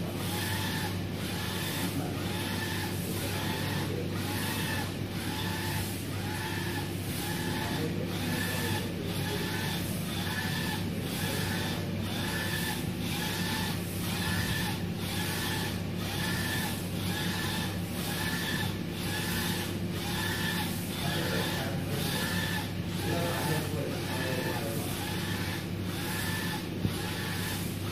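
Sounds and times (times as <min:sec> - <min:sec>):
printer carriage whirring: 0:00.0 - 0:27.9.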